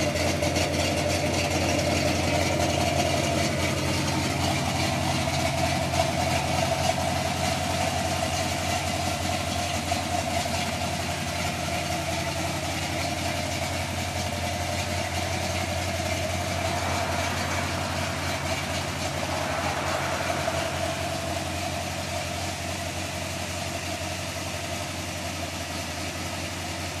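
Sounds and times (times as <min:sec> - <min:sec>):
pickup engine idling: 0:00.0 - 0:27.0.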